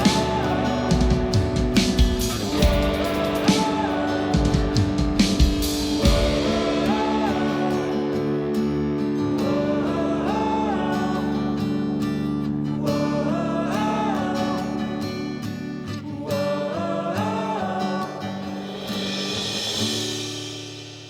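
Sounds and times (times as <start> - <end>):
guitar music: 0.0 - 21.0.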